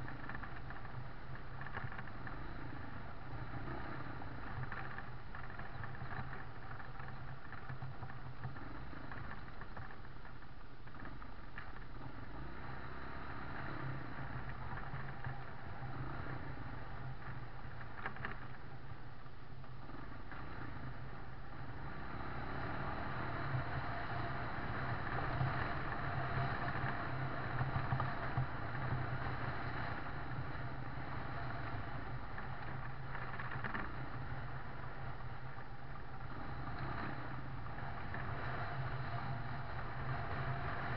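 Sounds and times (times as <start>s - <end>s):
vehicle engine hum: 0.0s - 40.9s.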